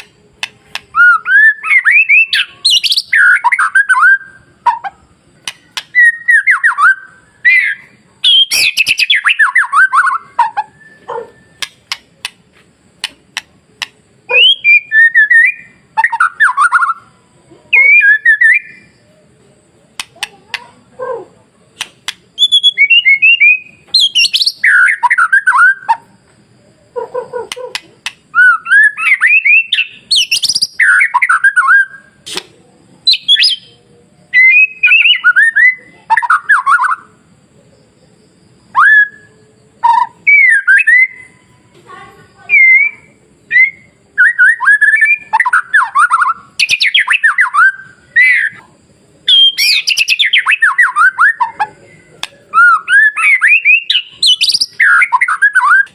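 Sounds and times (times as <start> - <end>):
bird whistles and warbles: 0.0 - 12.4, 13.8 - 17.1, 17.7 - 19.1, 20.0 - 26.2, 26.9 - 37.1, 38.7 - 41.5, 42.3 - 55.9.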